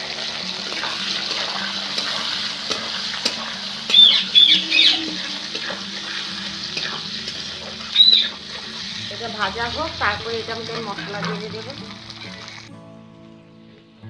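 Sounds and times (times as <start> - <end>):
potatoes sizzling in hot oil: 0.0 - 12.7.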